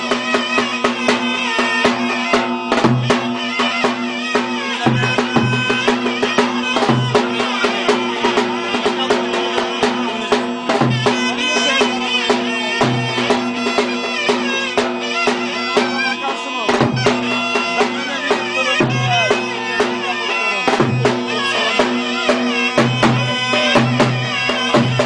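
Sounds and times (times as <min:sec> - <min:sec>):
clarinet playing folk dance tune: 0:00.0 - 0:25.0.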